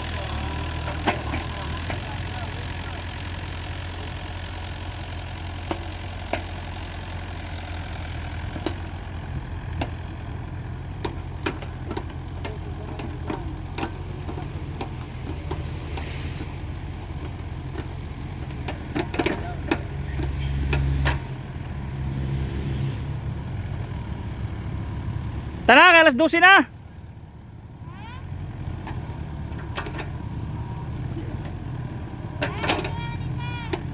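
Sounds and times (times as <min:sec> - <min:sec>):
diesel engine humming: 0:00.0 - 0:33.9.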